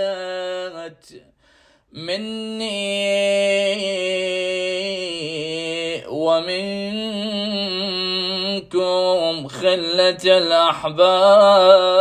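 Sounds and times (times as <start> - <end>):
man chanting: 0.0 - 1.3, 1.9 - 12.0.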